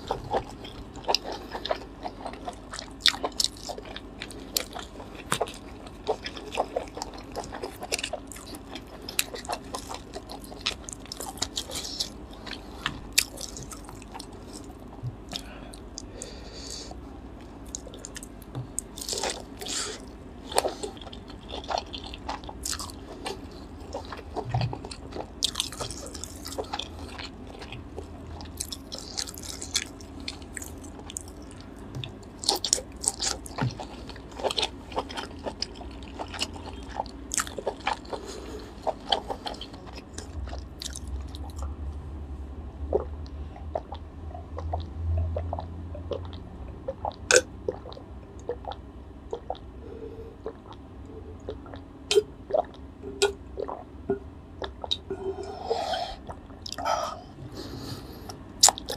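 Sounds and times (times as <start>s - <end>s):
chewing food: 0.0s - 42.0s, 42.9s - 49.7s, 50.3s - 53.9s, 54.6s - 58.9s.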